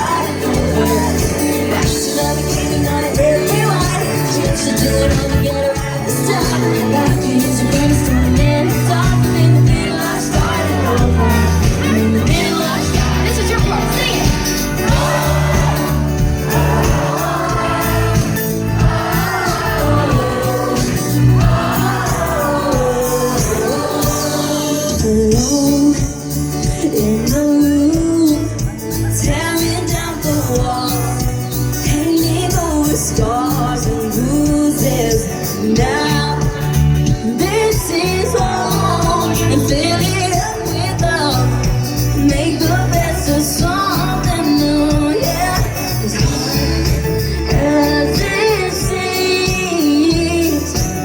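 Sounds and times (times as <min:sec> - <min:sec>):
lead vocal singing: 0:00.0 - 0:51.0
live pop song over sound system: 0:00.0 - 0:51.0.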